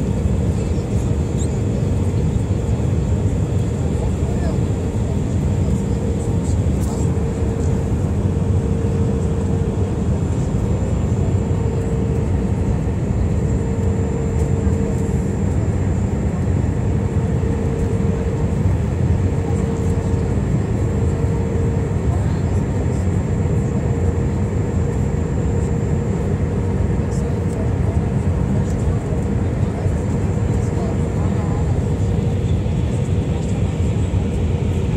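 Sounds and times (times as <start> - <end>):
low rumble of engines and airflow: 0.0 - 34.9
mid-pitched hum: 0.0 - 34.9.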